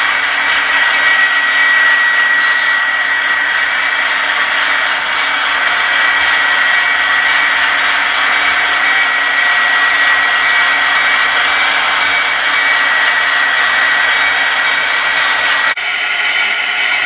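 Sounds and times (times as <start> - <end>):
model train whining past: 0.0 - 17.0.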